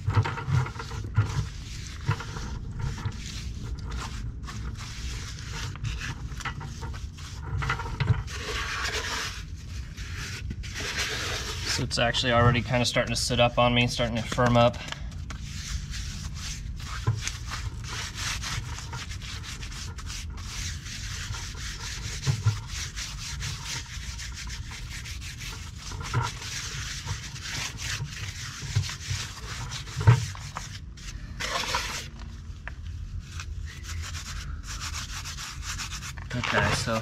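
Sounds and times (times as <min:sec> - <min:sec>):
gritty scraping of cement: 0:00.0 - 0:37.0.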